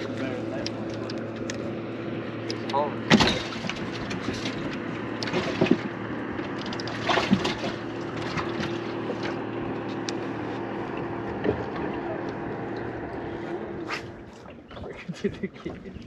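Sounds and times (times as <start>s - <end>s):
steady low hum: 0.0s - 16.0s
water lapping: 0.0s - 16.0s
wind: 0.0s - 16.0s.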